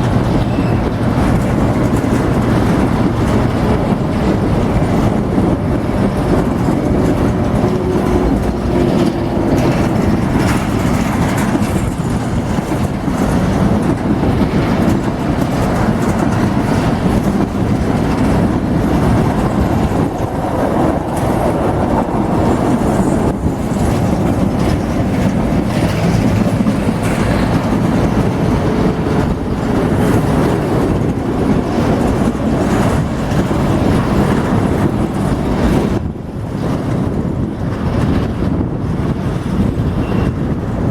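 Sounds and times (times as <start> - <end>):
train wheels rumbling on rails: 0.0 - 40.9
wheels clicking over rail joints: 0.0 - 40.9.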